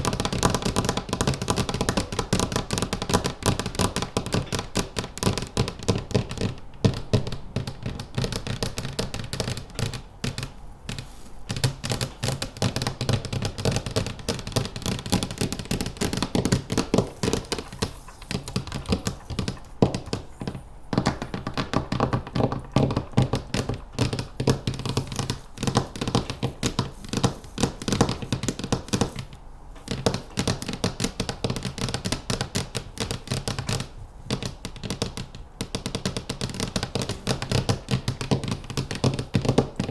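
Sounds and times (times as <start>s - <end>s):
fingernail tapping: 0.0s - 39.9s.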